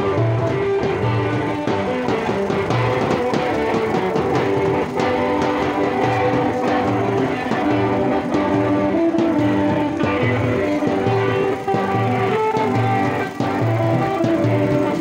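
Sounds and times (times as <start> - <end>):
amplified electric guitar music: 0.0 - 15.0.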